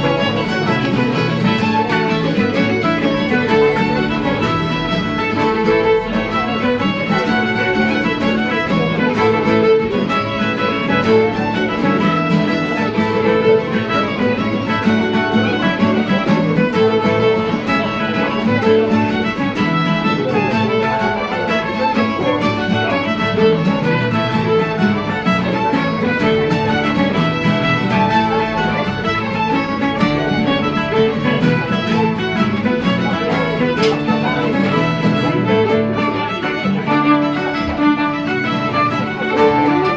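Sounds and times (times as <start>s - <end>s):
bowed fiddle melody: 0.0s - 39.9s
strummed guitar: 0.0s - 39.9s.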